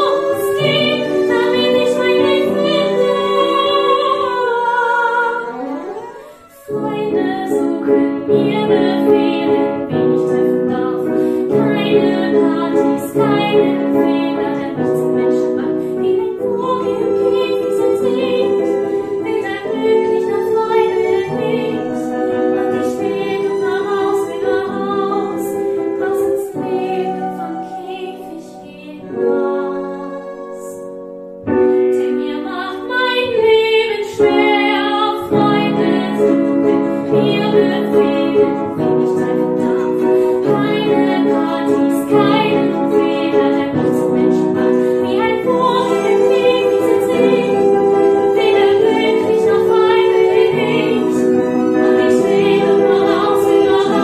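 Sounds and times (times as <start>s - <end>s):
woman singing with accompaniment: 0.0s - 54.0s.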